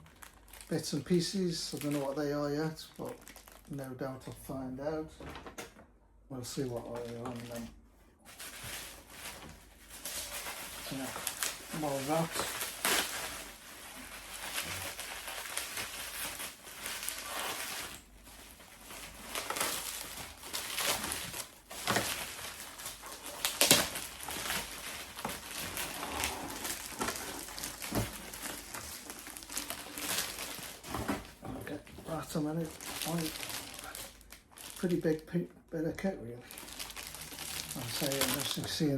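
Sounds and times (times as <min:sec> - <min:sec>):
plastic packaging rustling: 0:00.0 - 0:05.6, 0:06.4 - 0:35.4, 0:36.4 - 0:38.9.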